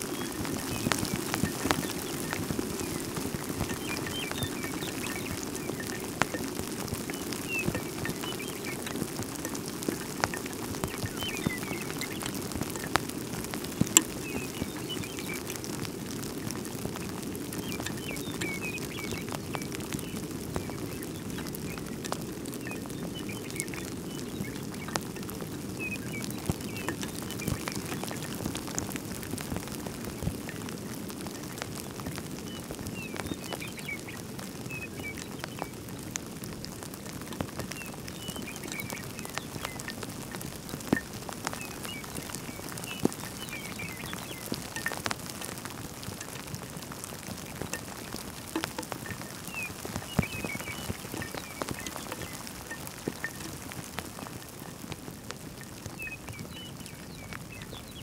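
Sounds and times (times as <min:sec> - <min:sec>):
light rain: 0:00.0 - 0:58.0
raindrops ticking sharply: 0:00.0 - 0:58.0
small birds chirping: 0:00.0 - 0:58.0.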